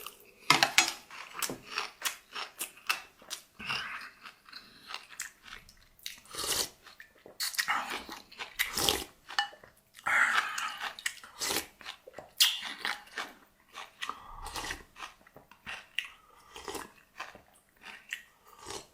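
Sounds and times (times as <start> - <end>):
chewing and crunching food: 0.0 - 18.9.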